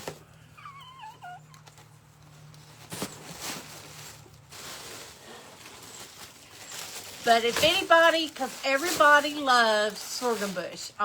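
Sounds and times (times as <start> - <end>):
rustling craft supplies: 1.6 - 11.0.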